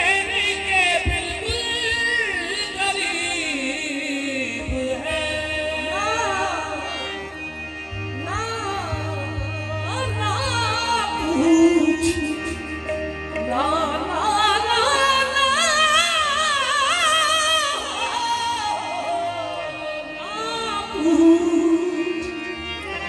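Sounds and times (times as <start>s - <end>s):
harmonium drone: 0.0s - 23.0s.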